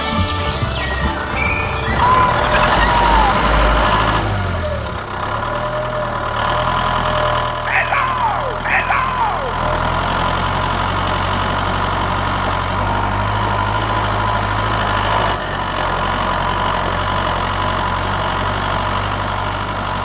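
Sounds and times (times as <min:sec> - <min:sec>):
vehicle engine idling: 0:00.5 - 0:20.0.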